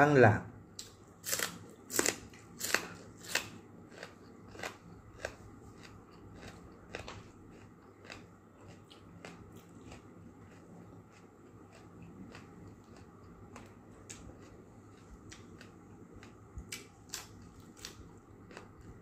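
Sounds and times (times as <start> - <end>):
person chewing crunchy vegetable: 0.8 - 19.0.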